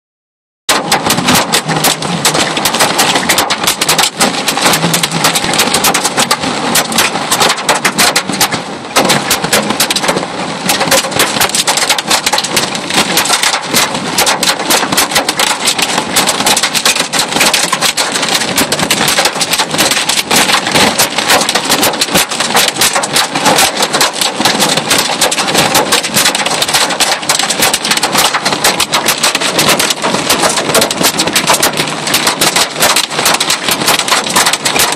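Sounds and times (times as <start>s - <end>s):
hail drumming on vehicle roof: 0.7s - 34.9s.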